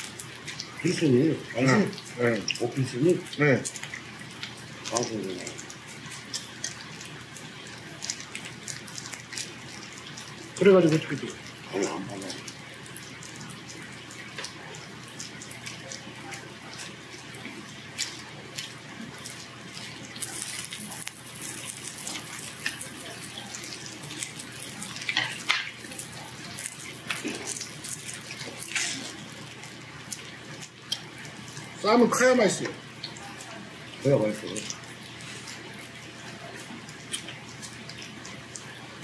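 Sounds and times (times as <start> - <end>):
meat sizzling on grill plate: 0.0 - 39.0.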